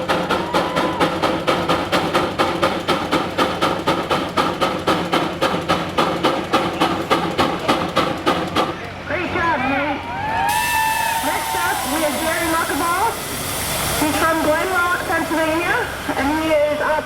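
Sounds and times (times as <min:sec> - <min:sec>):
steam engine exhaust chuffing: 0:00.0 - 0:09.2, 0:10.5 - 0:17.0.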